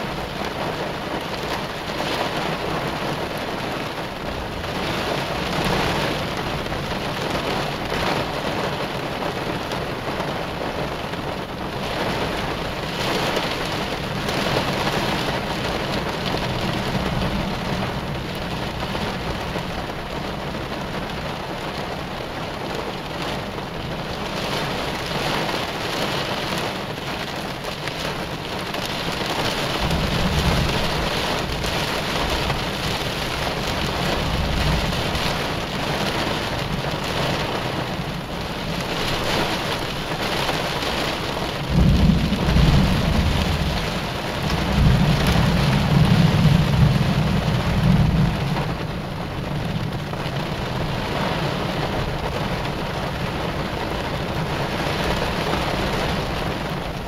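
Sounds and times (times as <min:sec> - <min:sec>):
heavy rain on a car: 0:00.0 - 0:57.0
thunder rumble: 0:00.0 - 0:57.0.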